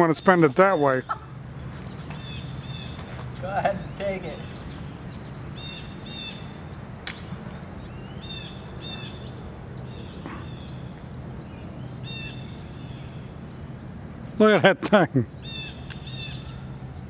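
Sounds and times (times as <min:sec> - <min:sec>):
small birds chirping: 0:00.0 - 0:14.4, 0:15.2 - 0:17.0
steady low hum: 0:00.0 - 0:17.0.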